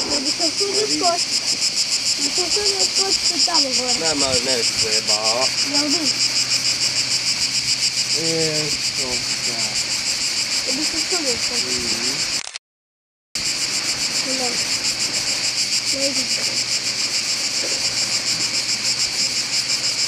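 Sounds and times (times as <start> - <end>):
cicadas buzzing: 0.0 - 12.4, 13.4 - 20.0.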